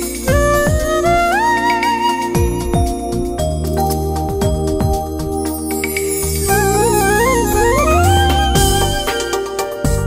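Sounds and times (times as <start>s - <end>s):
low sustained tones: 0.0s - 9.5s
background music melody: 0.0s - 10.0s.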